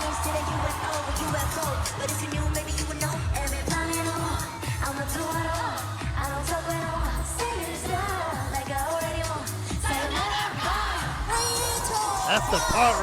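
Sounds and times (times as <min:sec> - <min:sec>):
pop music with woman singing: 0:00.0 - 0:13.0.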